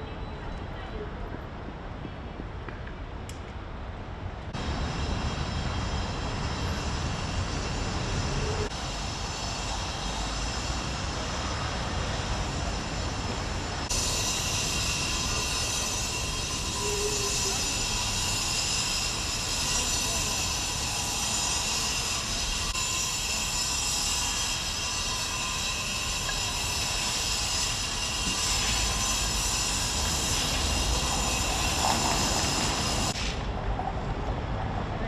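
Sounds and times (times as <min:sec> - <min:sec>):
machine noise with high whine: 0:04.5 - 0:34.8.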